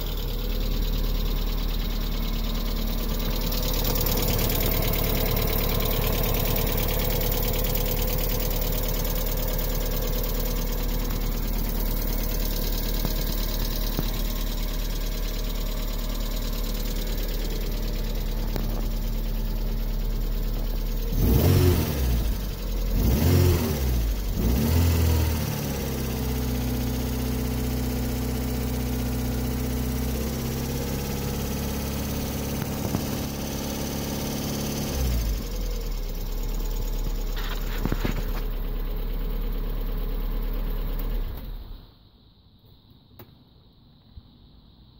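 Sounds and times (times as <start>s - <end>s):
car engine idling and revving: 0.0s - 42.1s.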